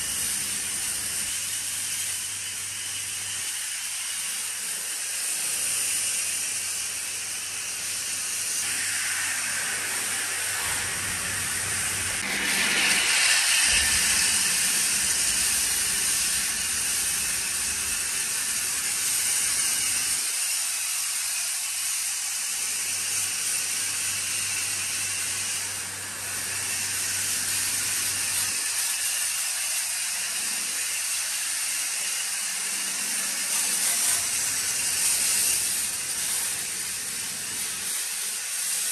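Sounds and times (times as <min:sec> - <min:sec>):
pressure washer spraying foam: 0:00.0 - 0:38.9.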